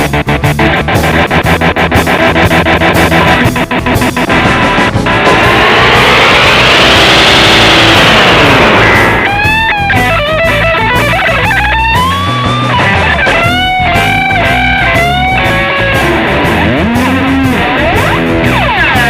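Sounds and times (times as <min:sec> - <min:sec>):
electric guitar with delay effects: 0:00.0 - 0:19.0.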